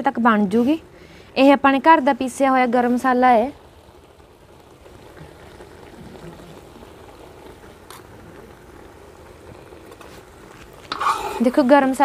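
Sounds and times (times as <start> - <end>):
curry bubbling in a wok: 0.0 - 12.0.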